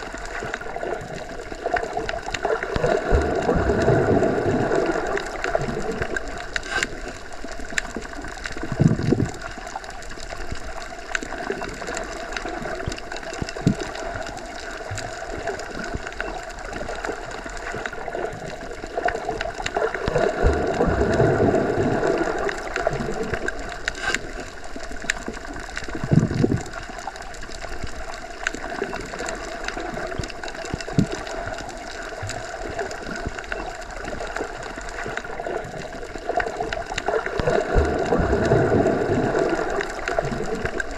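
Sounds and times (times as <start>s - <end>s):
small underwater clicks: 0.0s - 40.9s
surging swells of water: 0.0s - 40.9s.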